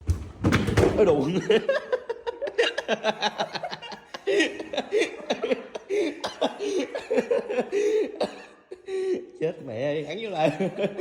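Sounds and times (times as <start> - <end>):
men laughing: 1.0 - 9.4, 10.2 - 11.0.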